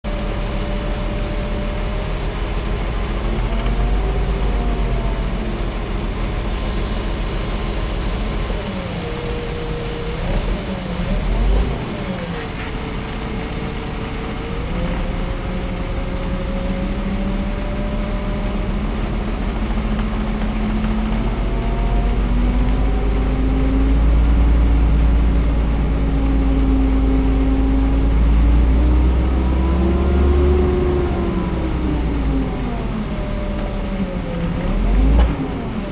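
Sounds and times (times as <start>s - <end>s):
diesel bus engine running: 0.0s - 35.9s.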